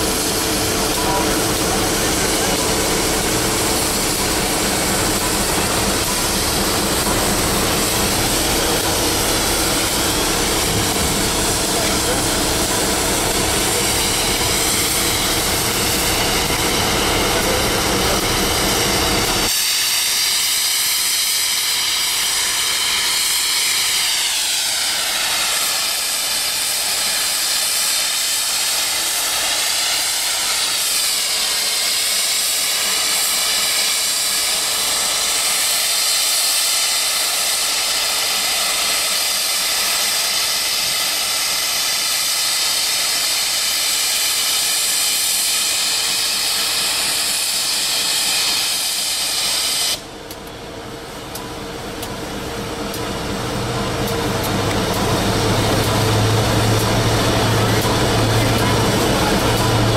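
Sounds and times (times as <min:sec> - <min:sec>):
steam hissing from safety valve: 0:00.0 - 0:50.1, 0:53.9 - 0:59.9.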